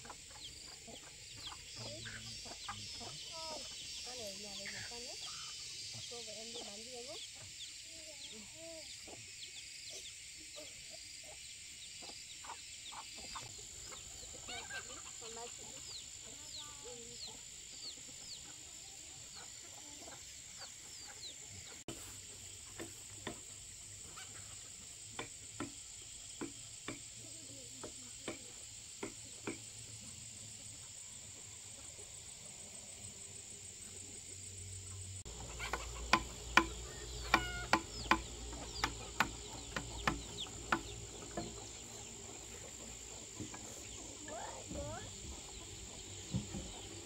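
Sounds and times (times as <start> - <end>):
small birds chirping: 0.0 - 32.8, 33.4 - 47.0
chickens clucking: 0.0 - 47.0
high insect drone: 0.0 - 47.0.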